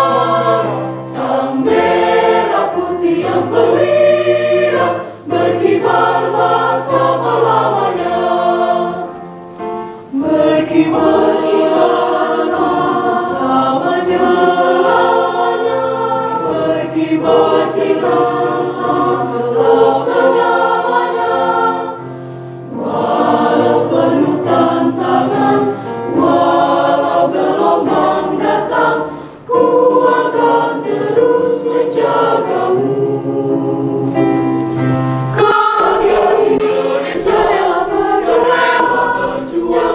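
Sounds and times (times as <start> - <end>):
mixed choir singing: 0.0 - 39.9.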